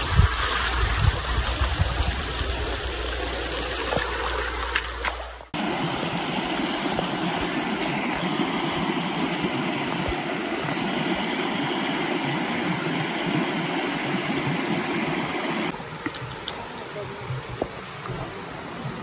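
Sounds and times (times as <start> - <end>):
stream rushing over stones: 0.0 - 19.0.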